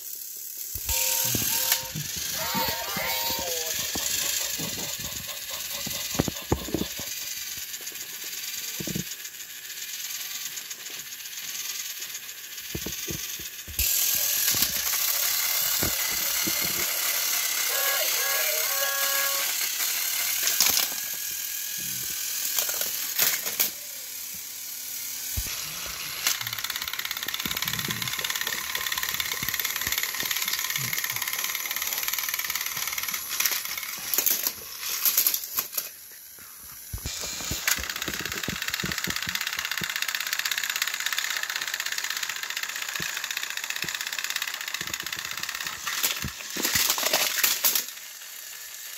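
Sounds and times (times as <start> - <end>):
toy motors whirring: 0.0 - 48.9.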